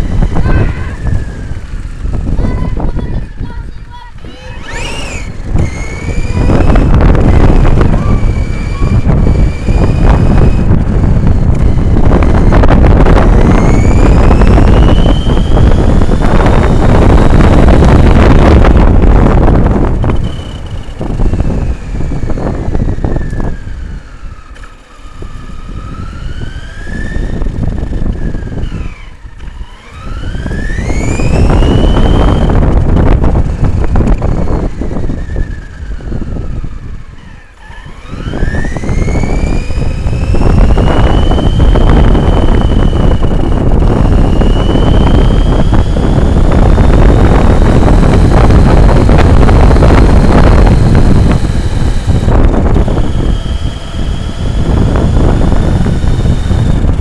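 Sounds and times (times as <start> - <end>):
electric motor whining: 0.0 - 57.0
rumble of tyres and wind: 0.0 - 57.0.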